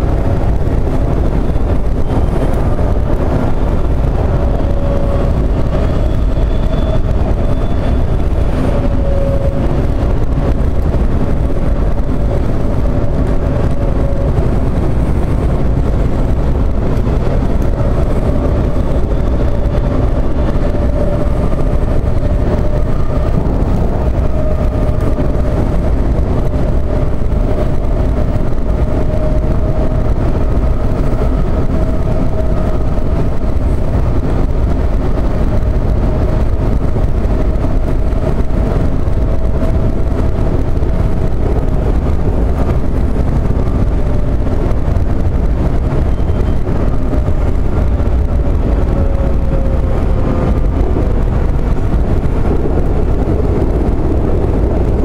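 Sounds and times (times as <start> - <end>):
train wheels rumbling on rails: 0.0 - 55.0
train whine: 0.0 - 55.0.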